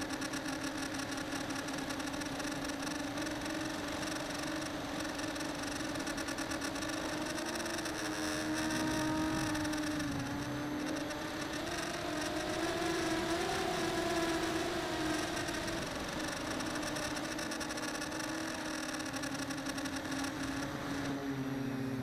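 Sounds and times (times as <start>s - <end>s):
electric motors and propellers whining: 0.0s - 22.0s.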